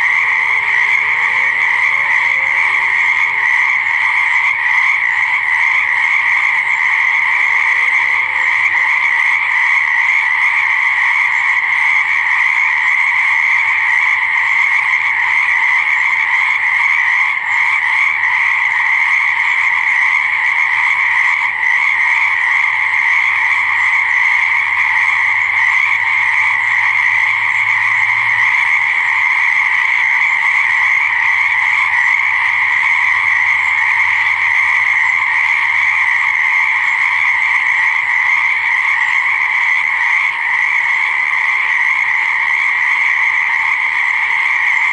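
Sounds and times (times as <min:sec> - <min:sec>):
chorus of frogs calling: 0:00.0 - 0:44.9.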